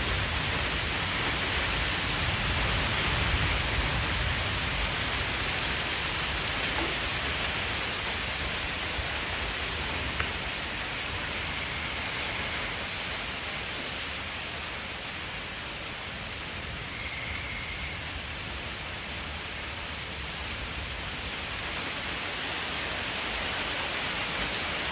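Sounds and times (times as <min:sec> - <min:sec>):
rain falling: 0:00.0 - 0:24.9.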